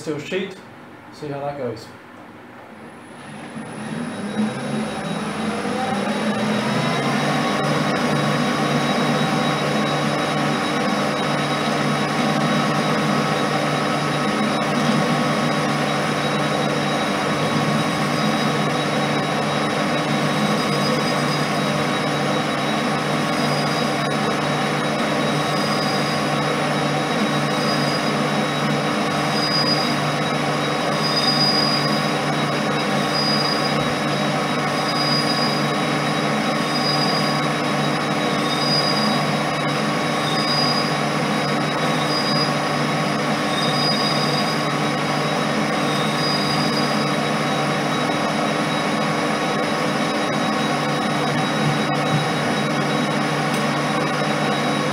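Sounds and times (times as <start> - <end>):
lathe running: 3.0 - 54.9
high-pitched cutting squeal: 3.2 - 54.9.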